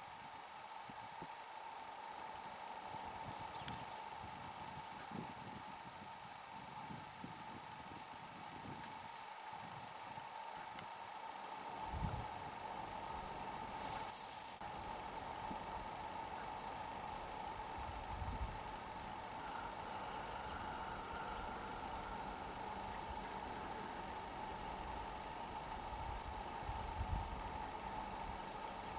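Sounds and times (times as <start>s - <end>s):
faint steady hum: 0.0s - 28.9s
insects chirring: 0.0s - 28.9s.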